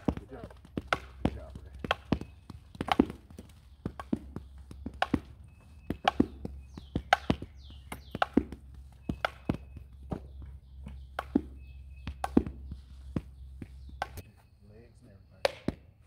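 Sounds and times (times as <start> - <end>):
balls bouncing on turf: 0.0 - 14.3, 15.4 - 16.0
softballs tapping bat: 0.0 - 14.3, 15.4 - 16.0.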